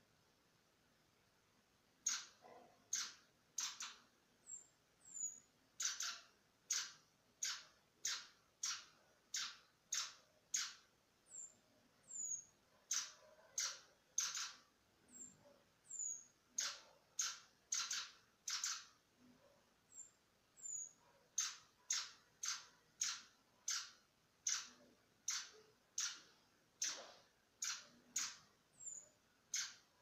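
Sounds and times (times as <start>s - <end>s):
bird raspy calls: 2.0s - 19.0s, 19.9s - 30.0s.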